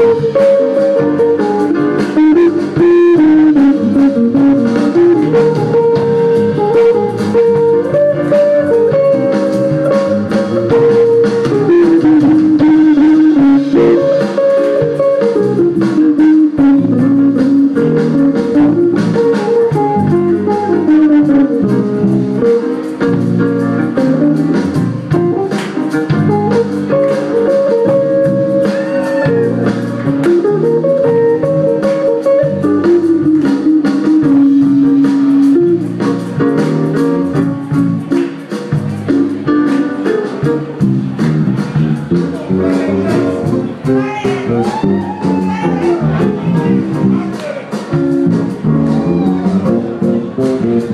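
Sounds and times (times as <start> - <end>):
jazz band playing: 0.0 - 50.9.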